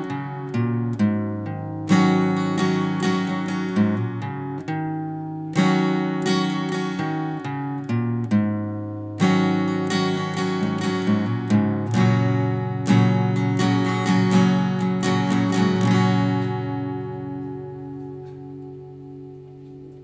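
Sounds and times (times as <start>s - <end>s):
acoustic guitar strummed chords: 0.0s - 20.0s
picked guitar notes: 0.0s - 20.0s.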